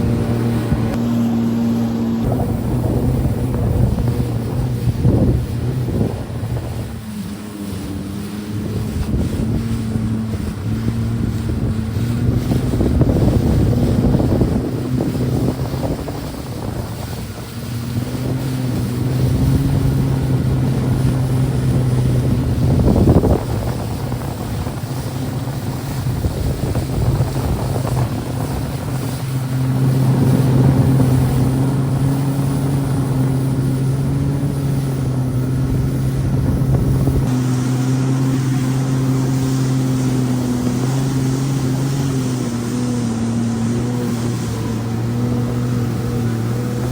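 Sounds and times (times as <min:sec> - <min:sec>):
jet ski engine running: 0:00.0 - 0:46.9
water rushing: 0:00.0 - 0:46.9
wind buffeting microphone: 0:00.0 - 0:46.9.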